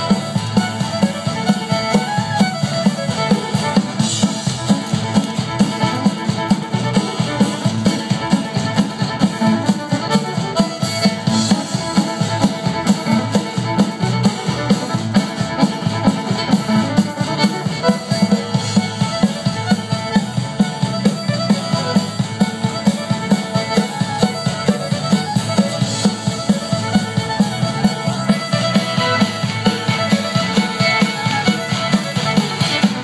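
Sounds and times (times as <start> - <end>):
drum kit steady quick beat: 0.0 - 33.0
live band playing dance music: 0.0 - 33.0.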